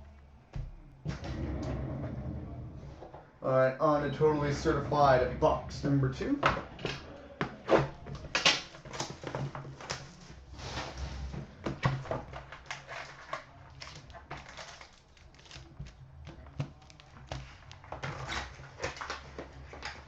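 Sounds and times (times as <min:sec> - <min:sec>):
card packs rustling and crinkling: 0:03.4 - 0:20.0.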